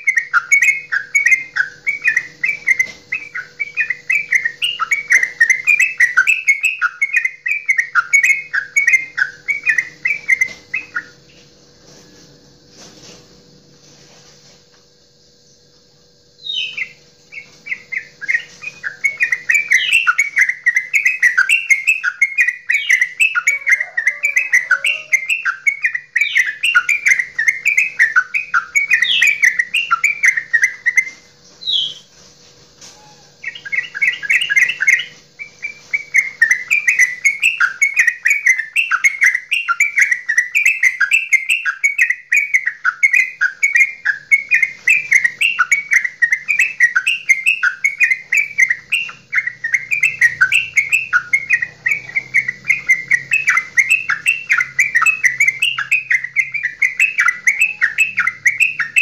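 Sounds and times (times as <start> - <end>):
bird singing bubbling song: 0.0 - 11.5, 16.3 - 32.1, 33.0 - 59.0
faint steady hum: 0.0 - 59.0.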